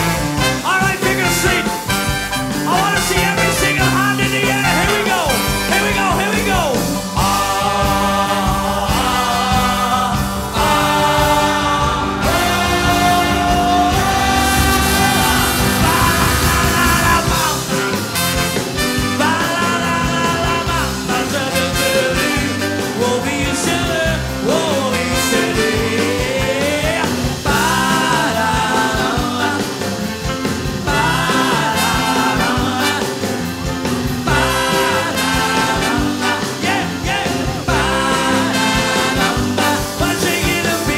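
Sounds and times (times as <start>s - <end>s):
swing band playing: 0.0s - 40.9s.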